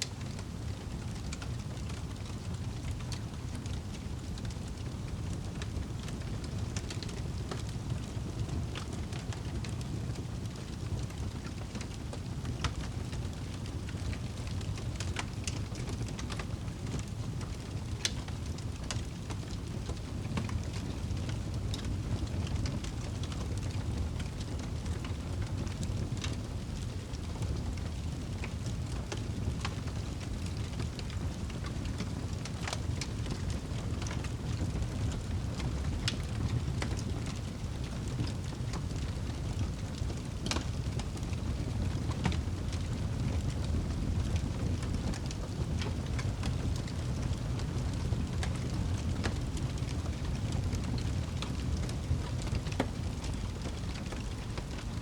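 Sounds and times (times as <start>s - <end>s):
fire flames rumbling: 0.0s - 55.0s
wood crackling and popping: 0.0s - 55.0s.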